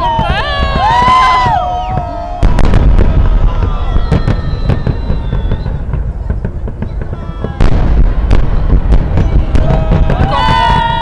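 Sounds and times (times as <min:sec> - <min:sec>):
fireworks booms and crackling: 0:00.0 - 0:11.0
sharp firework bang: 0:00.0 - 0:11.0.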